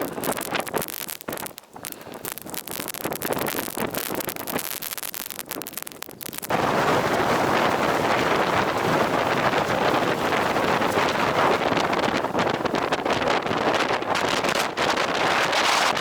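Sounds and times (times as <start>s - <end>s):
wind gusting against microphone: 0.0s - 16.0s.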